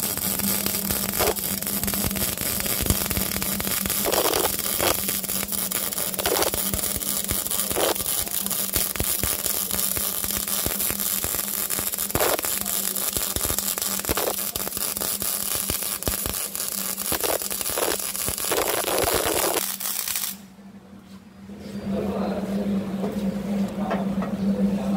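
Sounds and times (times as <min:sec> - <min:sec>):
welding arc crackling: 0:00.0 - 0:20.4
electrical hum: 0:00.0 - 0:24.9.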